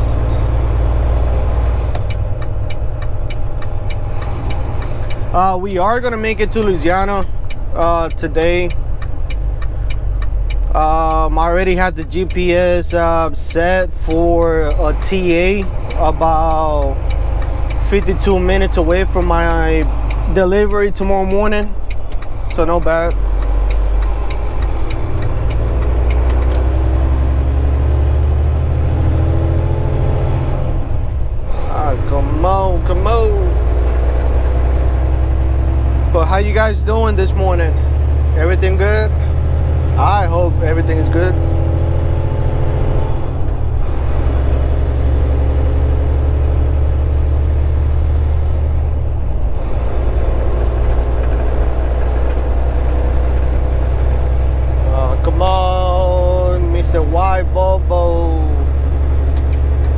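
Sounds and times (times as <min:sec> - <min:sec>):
road and cab noise: 0:00.0 - 0:59.9
truck diesel engine droning: 0:00.0 - 0:59.9.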